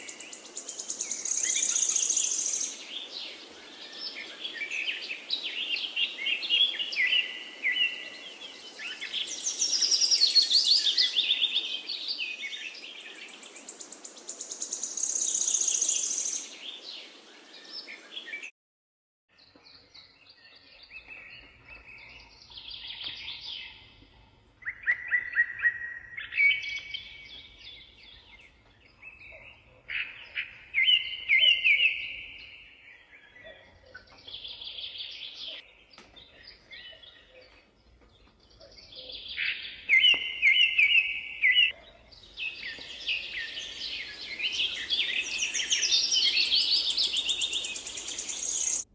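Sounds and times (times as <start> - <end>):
birds chirping and singing: 0.0 - 18.5, 19.4 - 48.9.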